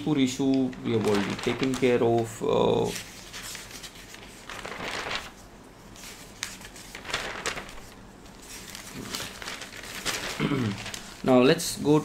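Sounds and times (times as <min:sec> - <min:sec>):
newspaper rustling: 0:00.4 - 0:11.9.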